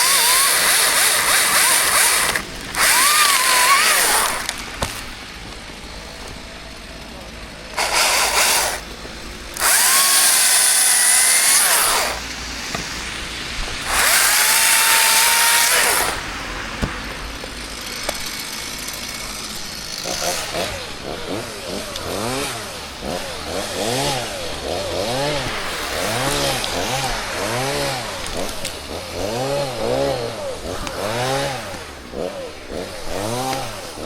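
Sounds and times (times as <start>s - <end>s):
chainsaw engine revving: 0.0s - 34.0s.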